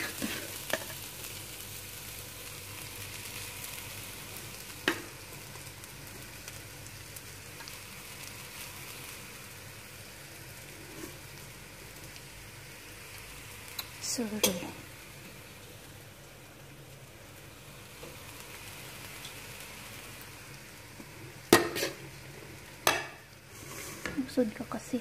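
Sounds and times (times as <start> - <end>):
rice sizzling in a pan: 0.0 - 25.0.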